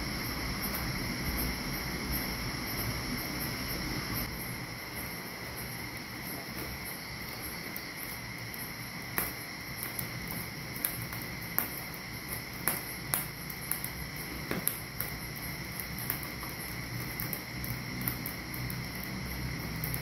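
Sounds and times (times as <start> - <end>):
crickets trilling: 0.0 - 20.0
wood fire popping: 0.0 - 20.0.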